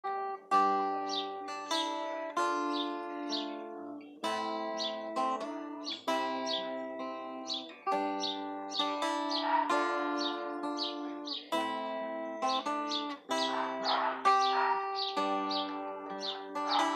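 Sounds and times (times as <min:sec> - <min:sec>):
acoustic guitar strumming chords: 0:00.0 - 0:16.9.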